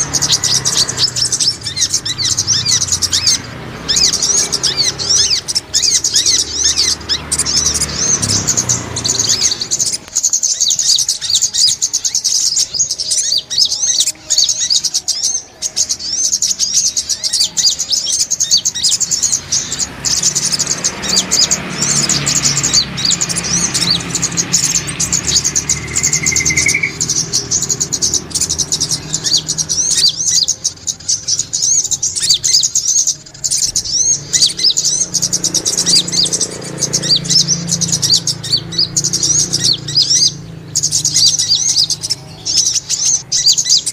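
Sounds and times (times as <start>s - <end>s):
birds twittering: 0.0s - 43.9s.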